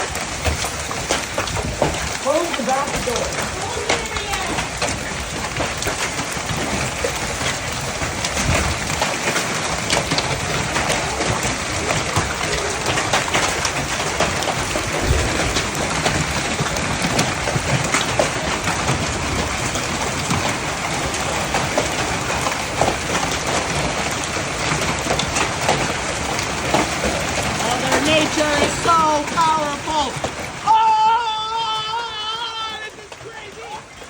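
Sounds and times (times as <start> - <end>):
dense rain: 0.0 - 34.0
hailstones pelting down: 0.0 - 34.0.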